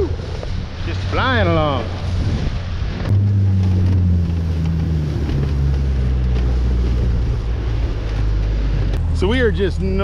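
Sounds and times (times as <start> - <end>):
outboard motor: 0.0 - 10.0
rushing water: 0.0 - 10.0
wind: 0.0 - 10.0.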